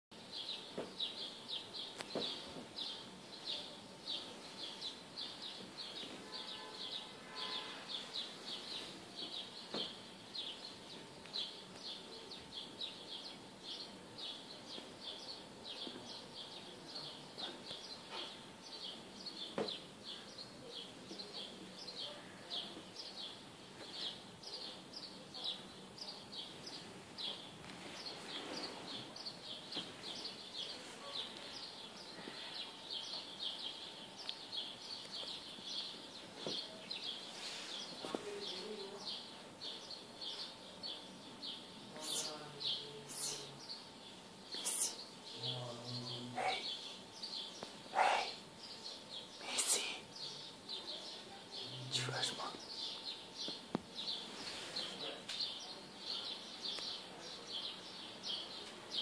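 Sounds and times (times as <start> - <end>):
small birds chirping: 0.1 - 59.0.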